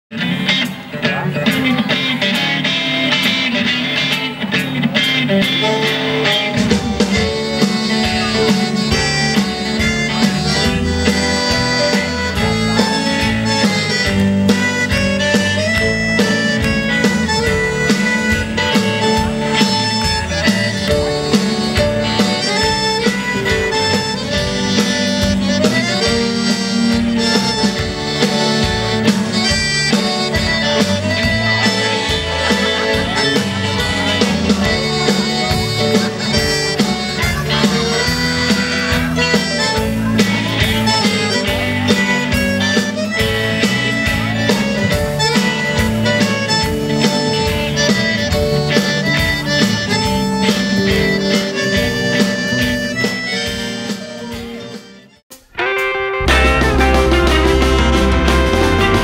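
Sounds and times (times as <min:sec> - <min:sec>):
accordion melody: 0:00.1 - 0:59.0
electric guitar: 0:00.1 - 0:59.0
steady beat: 0:00.2 - 0:59.0.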